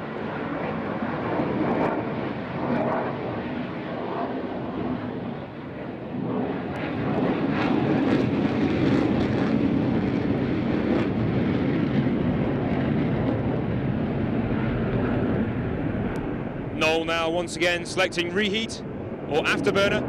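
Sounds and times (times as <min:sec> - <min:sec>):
jet engines with afterburner roaring: 0:00.0 - 0:20.0.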